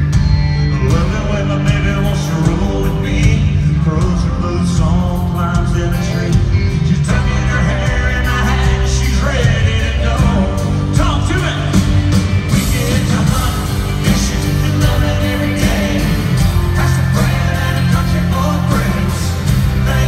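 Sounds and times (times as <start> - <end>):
live country song with band: 0.0 - 20.0
man singing: 0.7 - 20.0.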